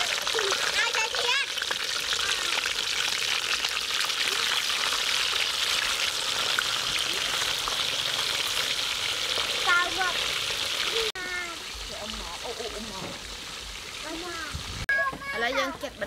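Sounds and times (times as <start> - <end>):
fish deep-frying in hot oil: 0.0 - 16.0.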